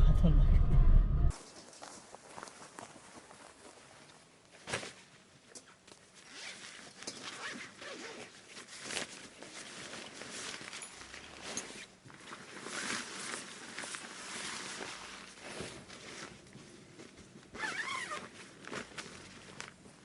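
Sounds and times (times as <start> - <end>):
rustling and handling noises: 1.4 - 20.0.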